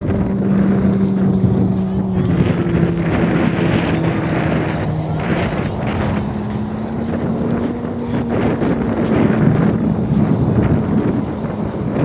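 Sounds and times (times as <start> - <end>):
engine running steadily: 0.0 - 12.0
wind noise on microphone: 0.0 - 12.0.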